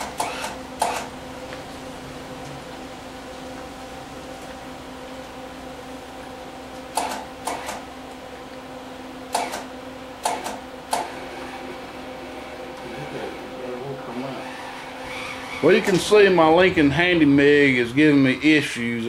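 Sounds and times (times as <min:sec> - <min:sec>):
welder arc sputtering: 0:00.0 - 0:08.2, 0:09.3 - 0:13.4, 0:14.0 - 0:19.0
electrical hum: 0:00.0 - 0:19.0.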